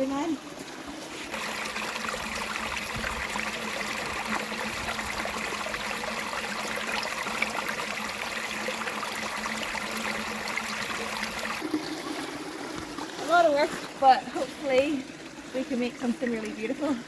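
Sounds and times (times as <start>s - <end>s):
water trickling into a pond: 0.0s - 17.0s.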